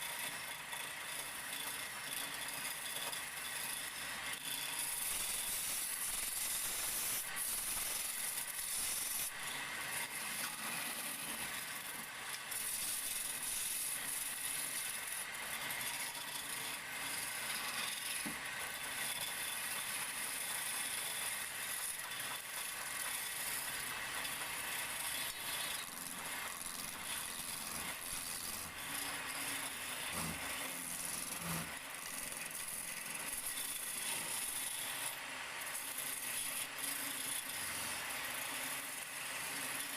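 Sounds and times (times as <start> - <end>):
chisel scraping spinning wood: 0.0 - 39.9
wood lathe turning: 0.0 - 39.9.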